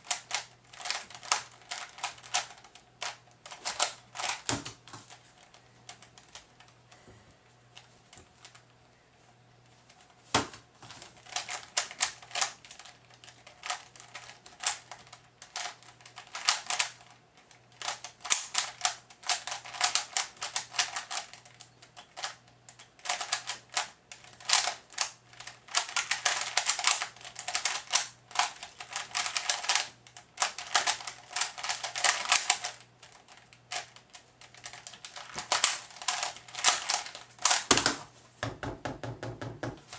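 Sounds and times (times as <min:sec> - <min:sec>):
puzzle cube plastic clicks: 0:00.0 - 0:06.8, 0:11.1 - 0:38.0.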